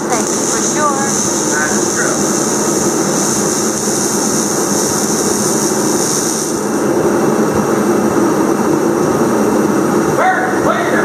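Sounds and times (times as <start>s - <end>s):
machine running with hiss: 0.0s - 11.0s.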